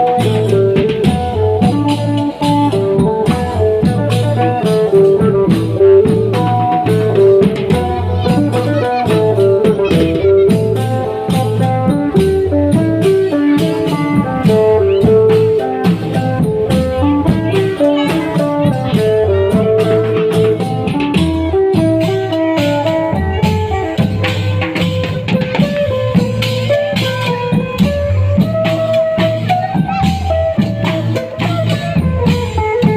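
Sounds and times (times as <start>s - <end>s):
plucked string melody: 0.0s - 32.9s
sharp percussion strikes: 0.0s - 32.9s
steady drumming: 0.0s - 32.9s.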